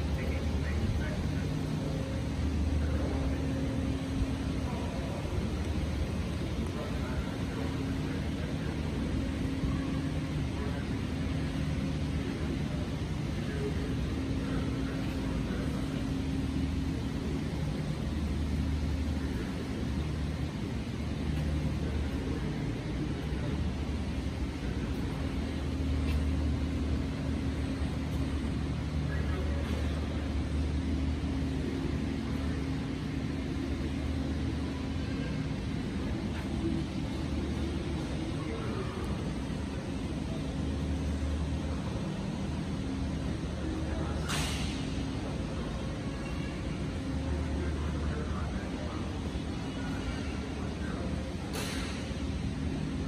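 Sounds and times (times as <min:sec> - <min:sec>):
low hum with faint tone: 0:00.0 - 0:53.0.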